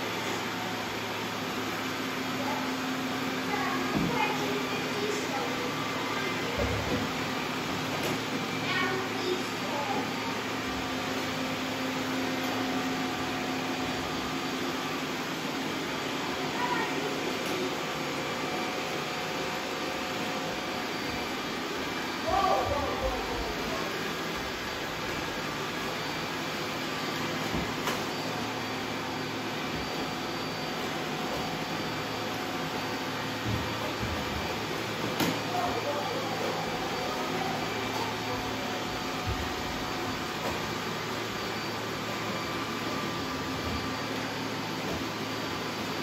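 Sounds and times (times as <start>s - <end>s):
robot vacuum cleaners whirring: 0.0s - 46.0s.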